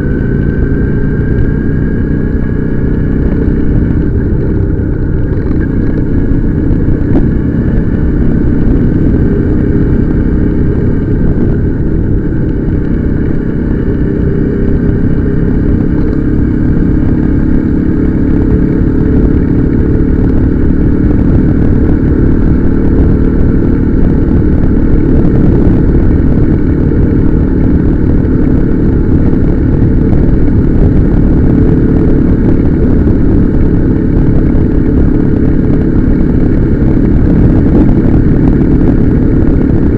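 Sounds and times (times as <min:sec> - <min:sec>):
heavy low rumble: 0:00.0 - 0:39.9
motorcycle engine running: 0:00.0 - 0:39.9.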